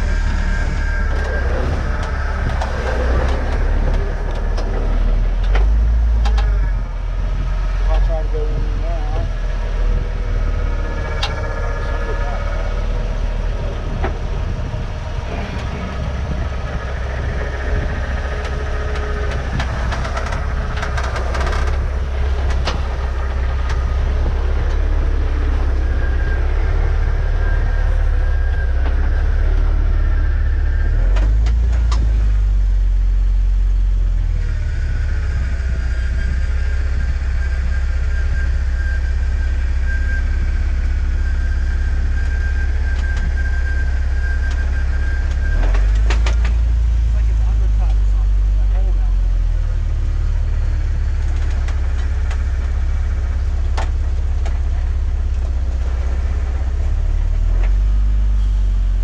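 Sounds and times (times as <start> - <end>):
off-road vehicle engine rumble: 0.0 - 59.0.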